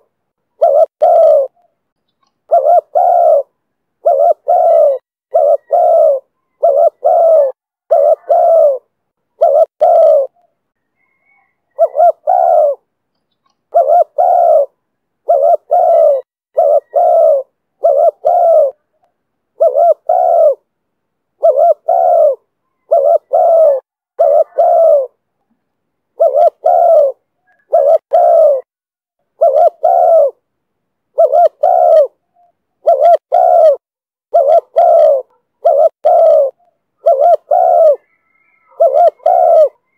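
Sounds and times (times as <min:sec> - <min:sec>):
dove cooing: 0:00.0 - 0:12.9, 0:13.7 - 0:20.7, 0:21.4 - 0:25.2, 0:26.2 - 0:28.7, 0:29.3 - 0:30.4, 0:31.1 - 0:39.9.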